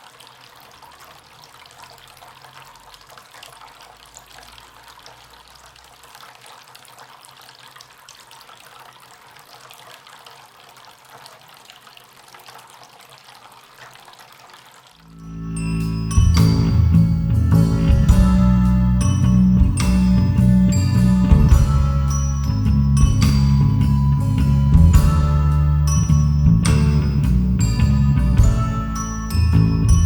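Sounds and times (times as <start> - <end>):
fountain water trickling: 0.0 - 30.0.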